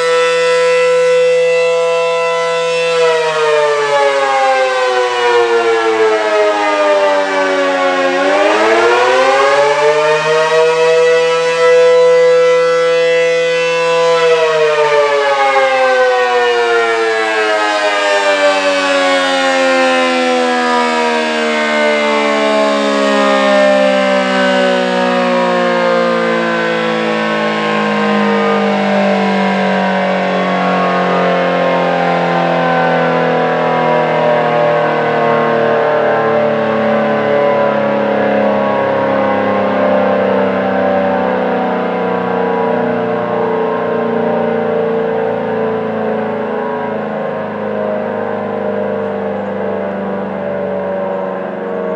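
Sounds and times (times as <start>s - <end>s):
dual-tone warning siren winding down: 0.0s - 51.9s.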